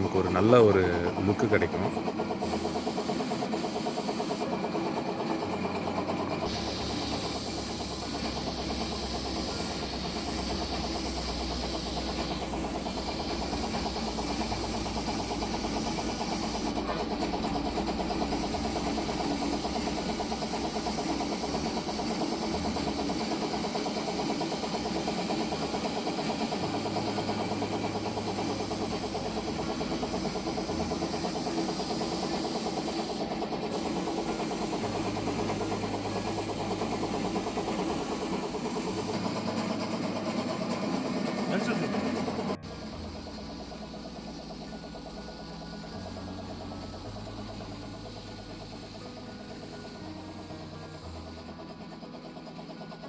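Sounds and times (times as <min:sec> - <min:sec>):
air compressor running: 0:00.0 - 0:53.0
spray gun hissing: 0:02.4 - 0:04.5, 0:06.4 - 0:39.8, 0:41.0 - 0:51.4.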